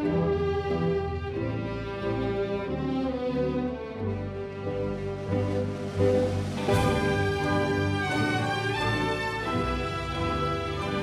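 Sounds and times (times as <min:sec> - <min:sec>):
orchestral strings slow chords: 0:00.0 - 0:11.0.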